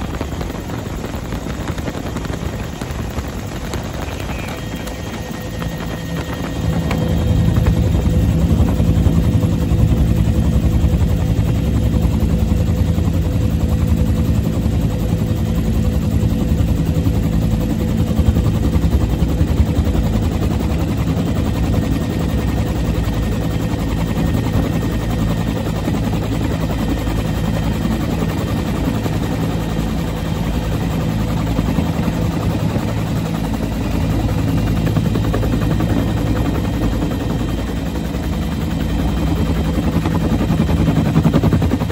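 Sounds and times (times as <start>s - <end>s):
helicopter engine tone: 0.0s - 41.9s
helicopter rotor beating: 0.0s - 41.9s.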